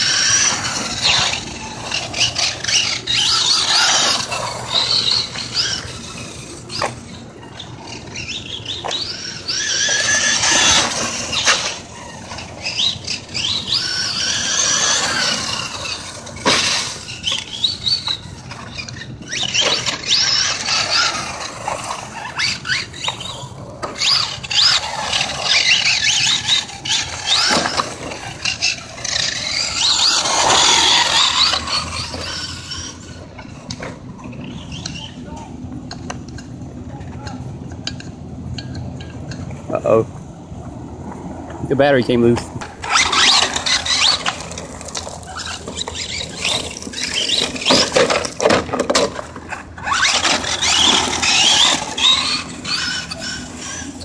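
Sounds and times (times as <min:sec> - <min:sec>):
rc car motor whining: 0:00.0 - 0:36.5, 0:42.6 - 0:54.0.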